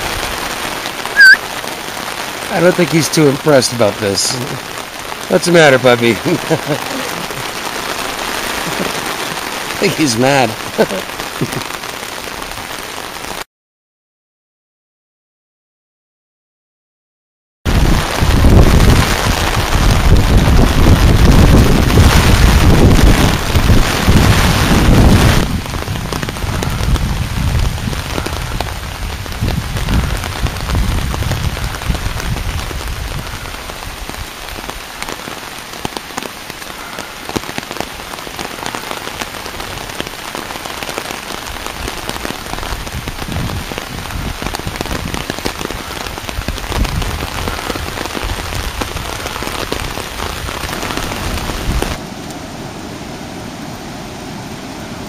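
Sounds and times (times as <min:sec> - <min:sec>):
heavy rain on waterlogged ground: 0:00.0 - 0:13.5, 0:17.7 - 0:55.0.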